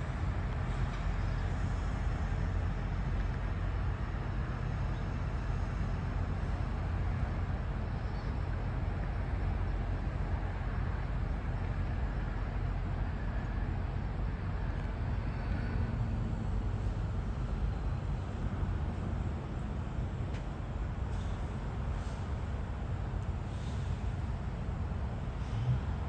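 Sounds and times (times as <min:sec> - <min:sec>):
distant road traffic rumble: 0:00.0 - 0:26.0.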